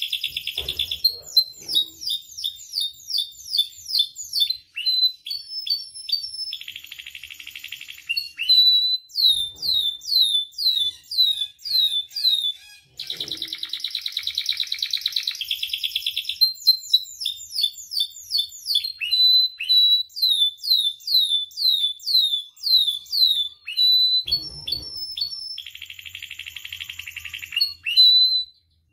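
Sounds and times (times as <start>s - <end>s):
canary singing: 0.0s - 28.9s.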